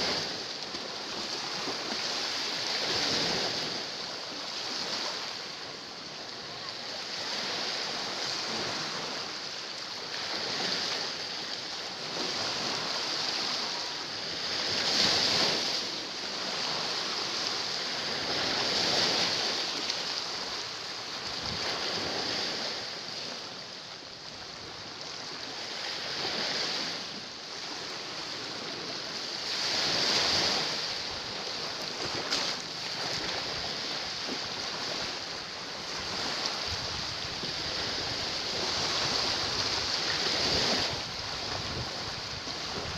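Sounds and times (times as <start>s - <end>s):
sea waves washing against rocks: 0.0s - 23.4s, 25.2s - 42.9s.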